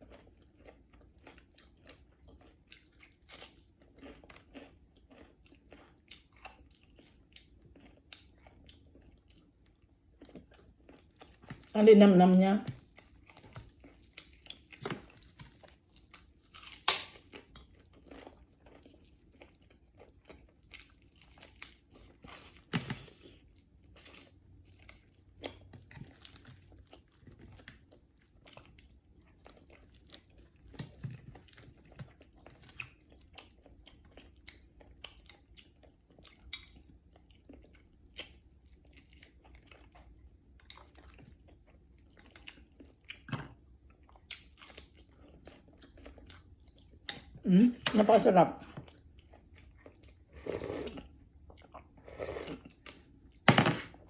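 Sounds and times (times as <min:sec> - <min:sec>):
chewing crispy fried fish: 0:00.0 - 0:11.8, 0:12.6 - 0:47.5, 0:48.6 - 0:54.0.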